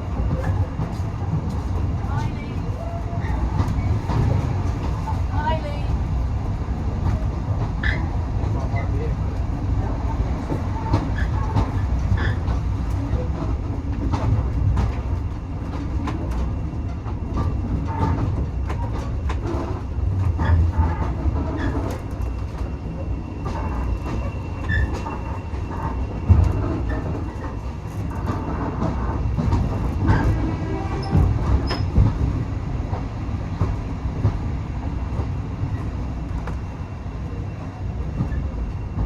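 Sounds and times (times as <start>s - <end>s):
railway carriage rumbling: 0.0s - 39.0s.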